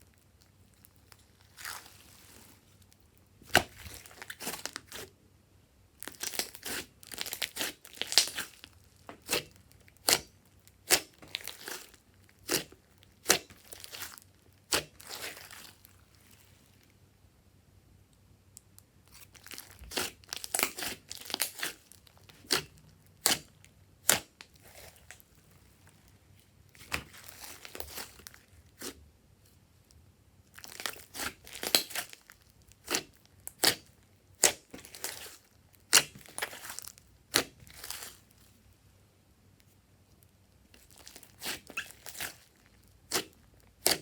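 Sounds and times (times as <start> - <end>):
clay slime squished by hand: 0.0 - 5.2, 6.0 - 16.8, 19.1 - 29.6, 30.5 - 38.6, 40.6 - 44.0.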